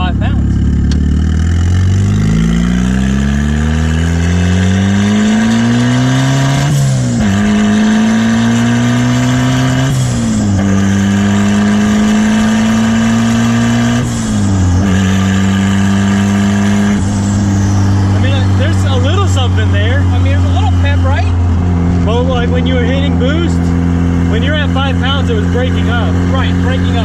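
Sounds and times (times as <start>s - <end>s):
car engine accelerating through gears: 0.0s - 27.0s.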